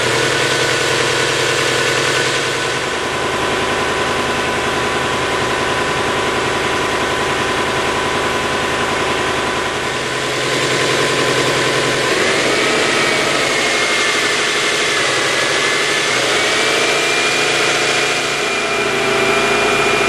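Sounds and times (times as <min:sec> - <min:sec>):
car engine idling roughly: 0:00.0 - 0:20.0.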